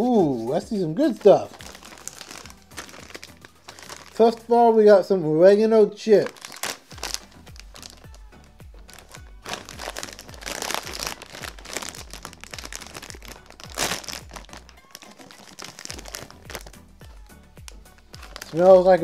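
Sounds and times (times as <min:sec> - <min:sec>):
background music with bass line: 0:00.0 - 0:19.0
plastic chip bag crinkling: 0:01.0 - 0:04.5, 0:06.0 - 0:16.9, 0:17.6 - 0:19.0.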